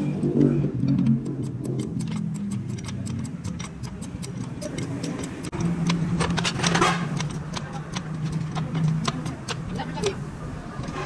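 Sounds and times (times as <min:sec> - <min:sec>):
hand tools clicking on metal: 0:00.0 - 0:11.0.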